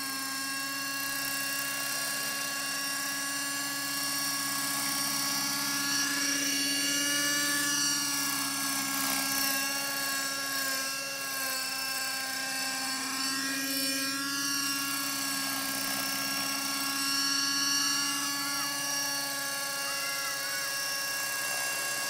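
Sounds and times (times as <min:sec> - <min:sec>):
model helicopter high whine: 0:00.0 - 0:22.0.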